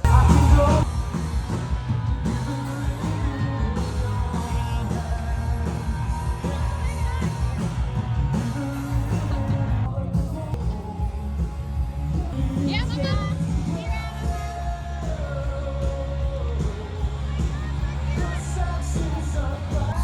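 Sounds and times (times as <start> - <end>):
pop-rock music with singing: 0.0 - 20.0.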